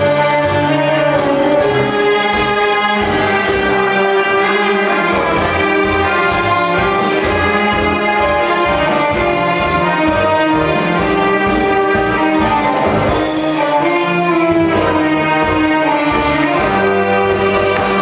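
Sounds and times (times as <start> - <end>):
dance music with steady beat: 0.0 - 18.0.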